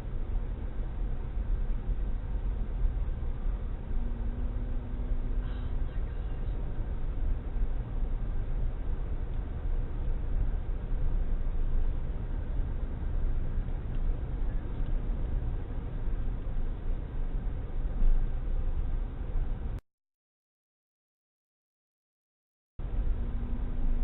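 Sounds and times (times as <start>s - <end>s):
vehicle road and engine rumble: 0.0s - 19.8s, 22.8s - 24.0s.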